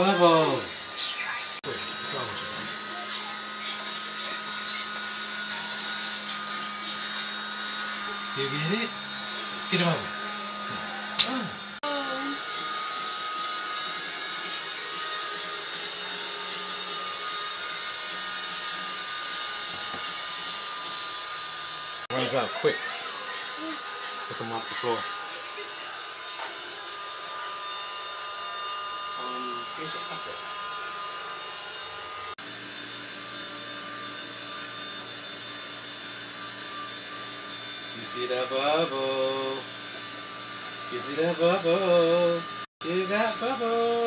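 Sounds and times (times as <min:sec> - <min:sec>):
small electric motor whirring: 0:00.0 - 0:44.0.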